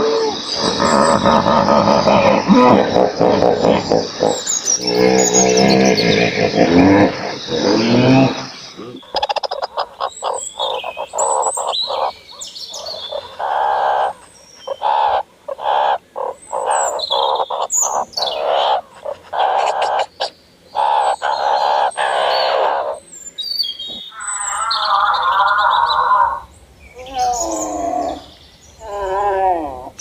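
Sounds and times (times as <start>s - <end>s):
birds squawking: 0.0s - 28.4s
high bird chirps: 3.0s - 28.8s.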